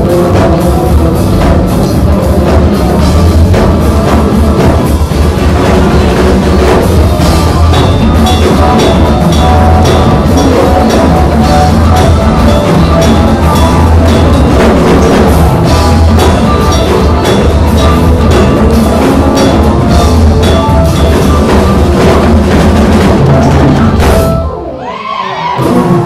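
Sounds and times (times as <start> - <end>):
bass line: 0.0 - 26.0
drum kit beat: 0.0 - 26.0
live band music: 0.0 - 26.0.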